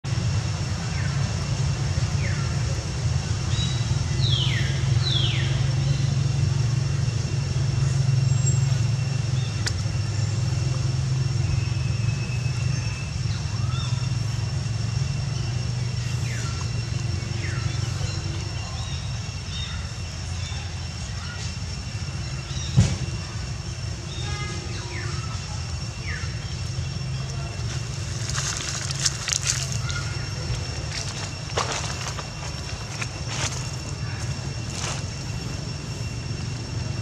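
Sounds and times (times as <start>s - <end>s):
low motor hum: 0.0s - 37.0s.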